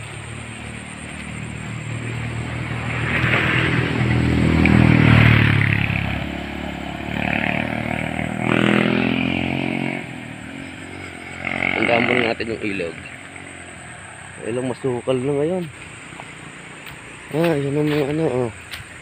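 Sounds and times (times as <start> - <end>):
motorcycle passing by: 0.0 - 19.0
second motorcycle engine: 0.0 - 19.0.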